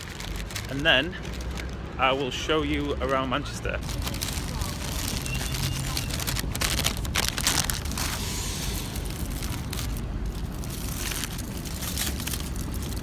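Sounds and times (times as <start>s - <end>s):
paper bag and foil crinkling: 0.0s - 2.2s, 3.8s - 13.0s
steady low rumble: 0.0s - 13.0s.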